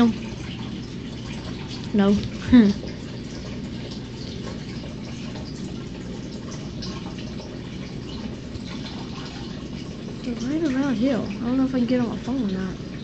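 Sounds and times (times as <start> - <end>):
faint water drips: 0.0 - 13.0
water trickling and splashing: 0.0 - 13.0.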